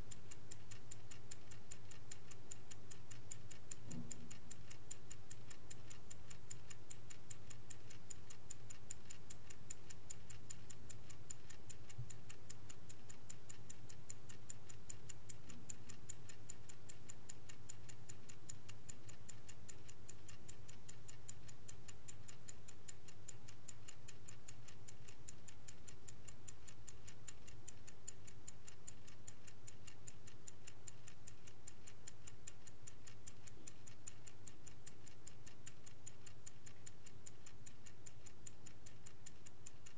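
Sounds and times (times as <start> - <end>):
clock ticking rapidly: 0.0 - 39.9.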